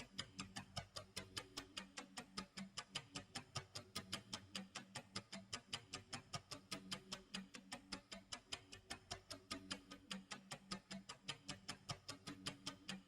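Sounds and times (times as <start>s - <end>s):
rapid clock ticks: 0.0s - 13.0s.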